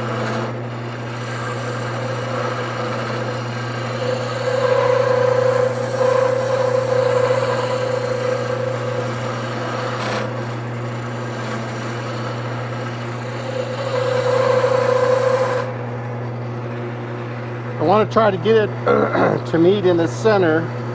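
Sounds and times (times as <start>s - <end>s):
turning tool scraping wood: 0.0s - 20.9s
wood lathe motor hum: 0.0s - 20.9s.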